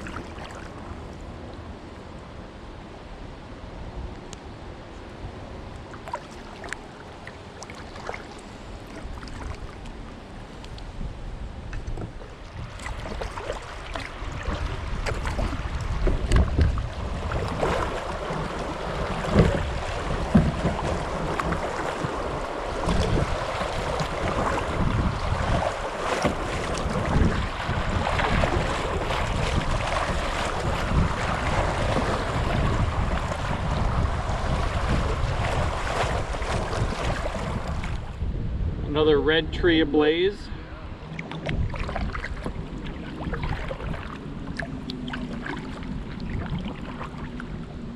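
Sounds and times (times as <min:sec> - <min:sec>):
water rushing around kayak: 0:00.0 - 0:04.0, 0:04.6 - 0:38.7, 0:39.8 - 0:47.9
wind on microphone: 0:08.1 - 0:47.9.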